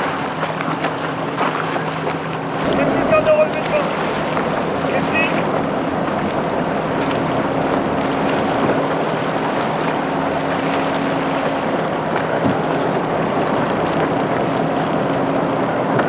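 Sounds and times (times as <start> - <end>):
choppy water: 0.0 - 16.0
motorboat engine hum: 0.0 - 16.0
wind buffeting microphone: 2.4 - 16.0.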